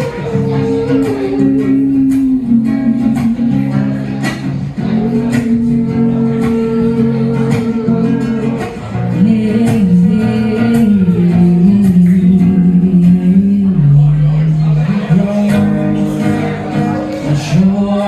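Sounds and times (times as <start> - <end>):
acoustic guitar strumming: 0.0 - 18.0
person singing long notes: 0.0 - 18.0.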